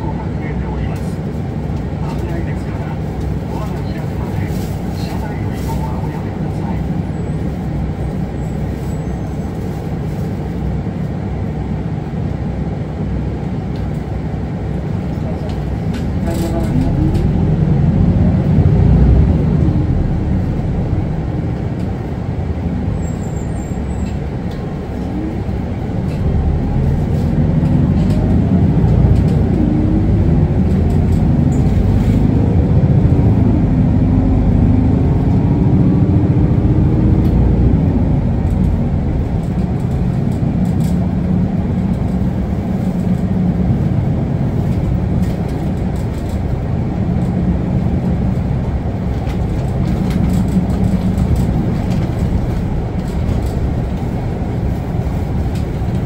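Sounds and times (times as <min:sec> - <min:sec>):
bus diesel engine: 0:00.0 - 0:56.0
road rumble: 0:00.0 - 0:56.0.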